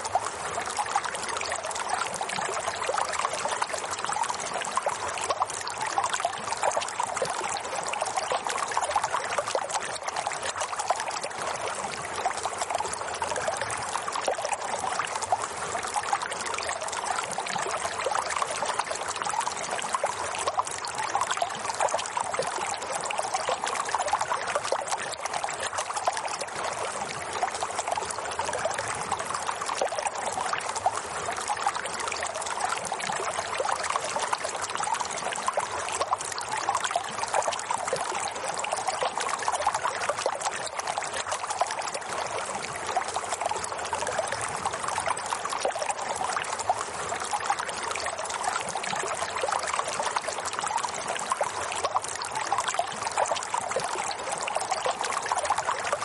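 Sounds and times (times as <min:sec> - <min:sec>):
water trickling and bubbling: 0:00.0 - 0:56.0.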